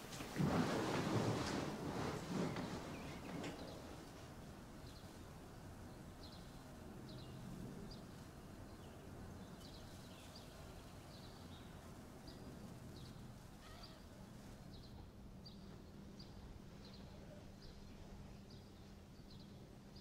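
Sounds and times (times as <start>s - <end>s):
low steady room hum: 0.0s - 20.0s.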